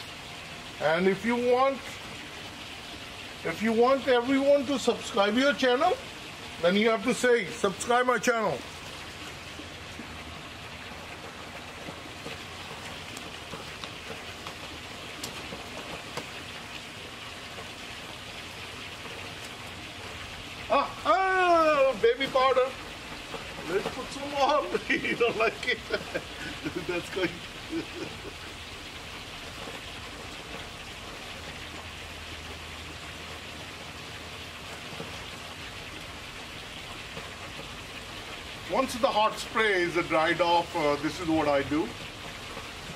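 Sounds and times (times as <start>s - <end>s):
steady outdoor hiss: 0.0s - 42.9s.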